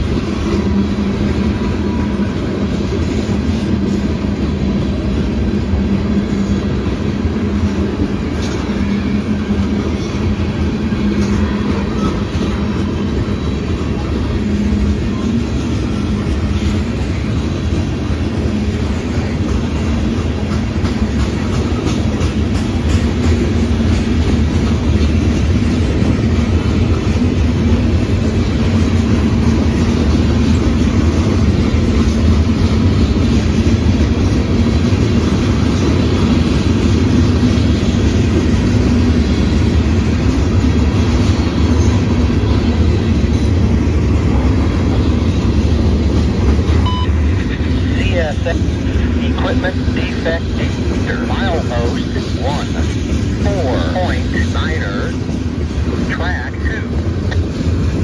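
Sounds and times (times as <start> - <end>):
railcars rumbling over rails: 0.0 - 58.0.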